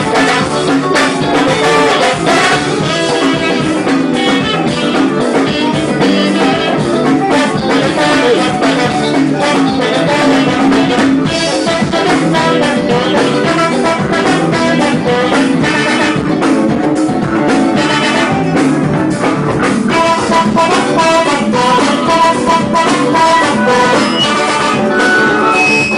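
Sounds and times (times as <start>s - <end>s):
band playing dance music: 0.0s - 25.9s
drums beating: 0.0s - 25.9s
saxophone melody: 0.0s - 25.9s.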